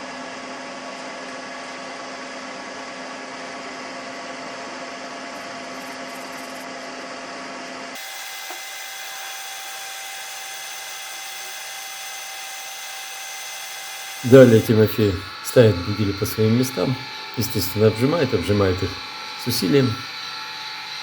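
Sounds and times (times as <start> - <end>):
machine tool humming and whining: 0.0 - 21.0.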